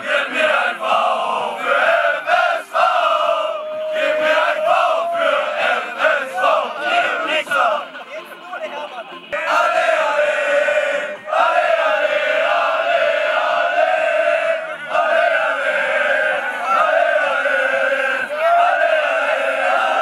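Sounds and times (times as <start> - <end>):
men chanting in unison: 0.0 - 7.9, 9.4 - 20.0.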